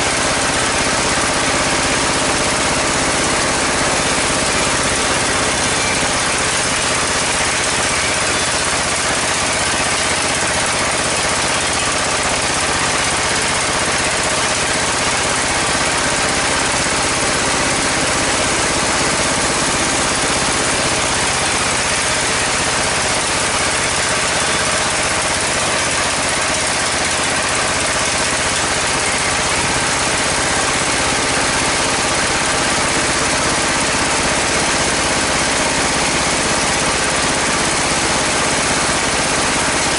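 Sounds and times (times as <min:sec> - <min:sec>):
sawmill engine and bandsaw drone: 0:00.0 - 0:39.9.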